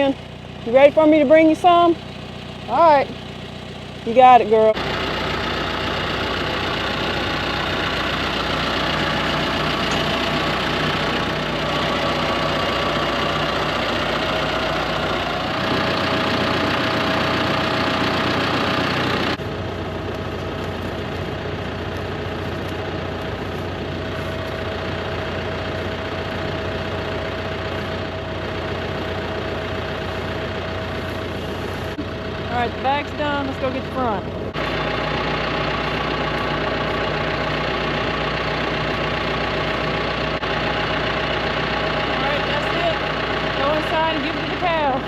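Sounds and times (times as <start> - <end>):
tractor engine idling: 0.0 - 45.0.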